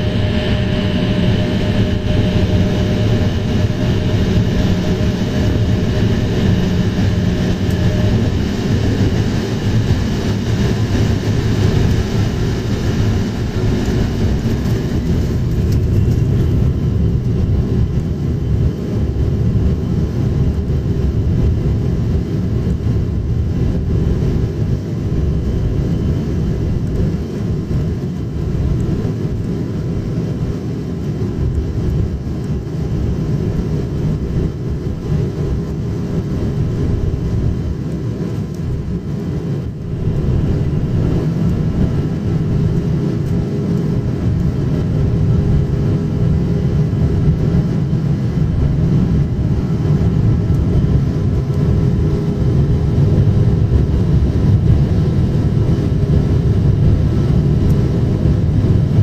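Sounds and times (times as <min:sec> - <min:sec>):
jet engine rumble: 0:00.0 - 0:59.0
thin steady whine: 0:00.0 - 0:59.0.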